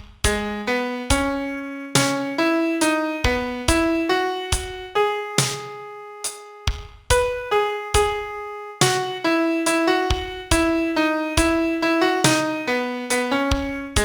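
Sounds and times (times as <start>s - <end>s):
piano melody: 0.2s - 14.0s.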